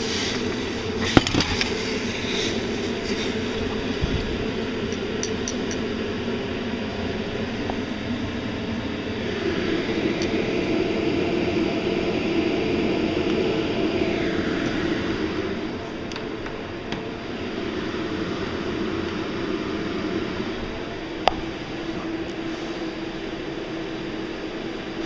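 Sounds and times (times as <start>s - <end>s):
steady rushing noise: 0.0s - 24.8s.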